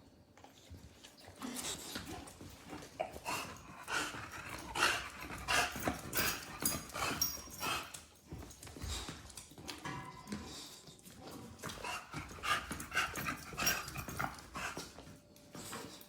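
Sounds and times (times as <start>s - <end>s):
dog panting and snuffling: 0.4s - 16.0s.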